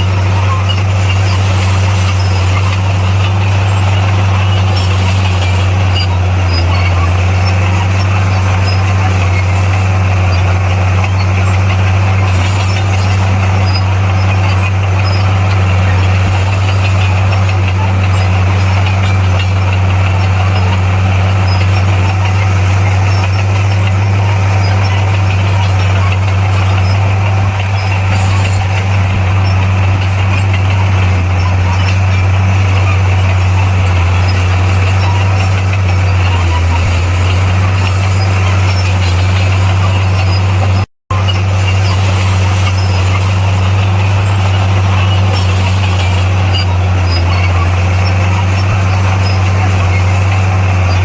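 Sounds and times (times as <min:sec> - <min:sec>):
bulldozer diesel engine droning: 0:00.0 - 0:51.0.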